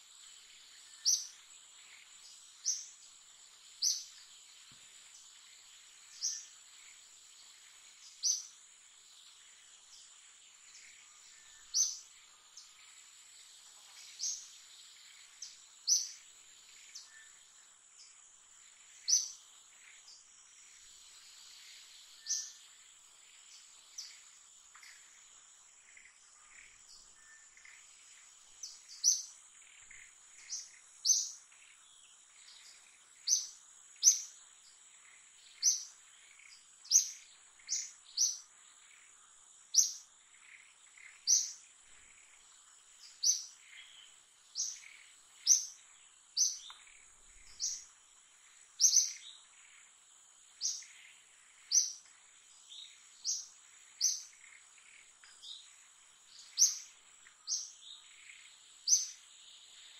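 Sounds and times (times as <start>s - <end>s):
high-pitched insect whine: 0.0s - 59.9s.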